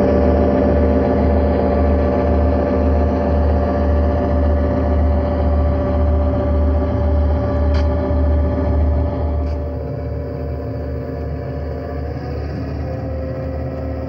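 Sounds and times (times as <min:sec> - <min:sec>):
diesel locomotive engine throbbing: 0:00.0 - 0:14.0.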